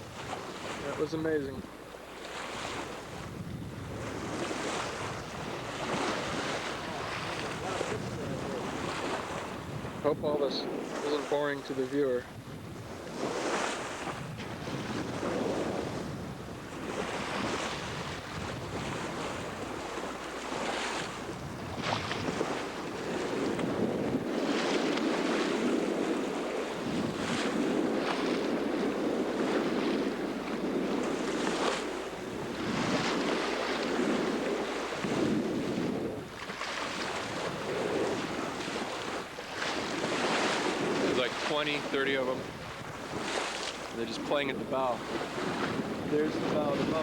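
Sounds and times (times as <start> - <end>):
water splashing along a hull: 0.0 - 47.0
wind buffeting microphone: 0.0 - 47.0.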